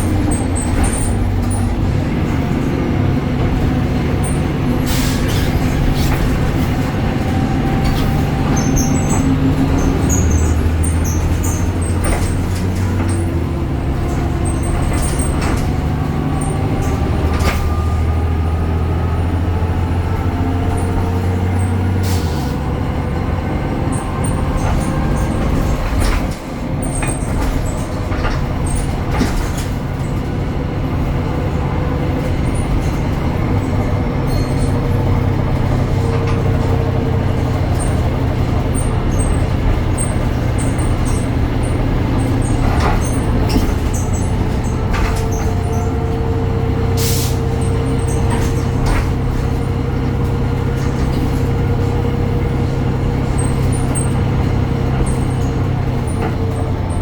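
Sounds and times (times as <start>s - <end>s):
bus body rattling: 0.0s - 57.0s
bus engine hum: 0.0s - 57.0s.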